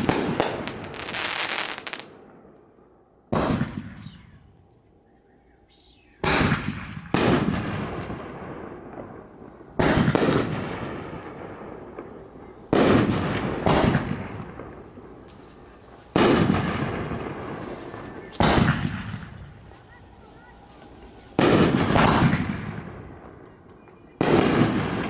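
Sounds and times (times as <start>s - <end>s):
fireworks bursting: 0.0s - 2.2s, 3.3s - 4.4s, 6.2s - 25.0s.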